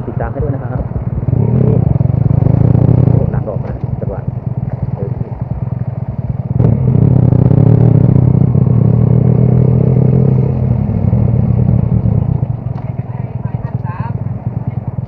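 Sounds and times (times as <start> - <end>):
motorcycle engine revving hard: 0.0 - 15.0.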